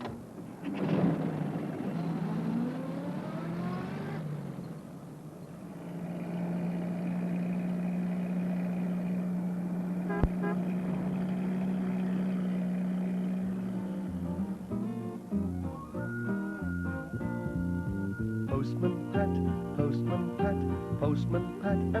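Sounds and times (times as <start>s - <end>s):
van engine revving: 0.0s - 22.0s.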